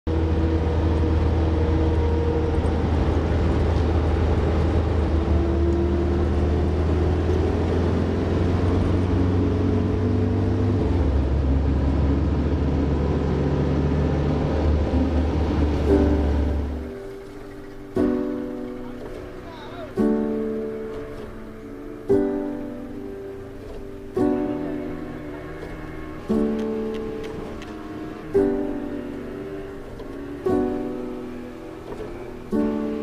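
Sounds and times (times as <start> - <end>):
engine droning: 0.1 - 33.0.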